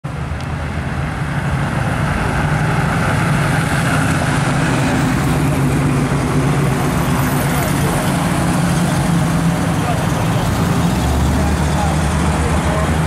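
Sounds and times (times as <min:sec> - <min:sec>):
engine rumble of passing traffic: 0:00.0 - 0:13.0
tyre and road noise: 0:00.0 - 0:13.0.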